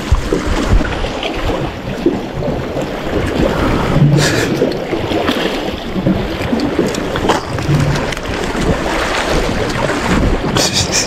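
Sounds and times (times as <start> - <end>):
sea waves on shore: 0.0 - 11.0
wind buffeting microphone: 0.0 - 11.0.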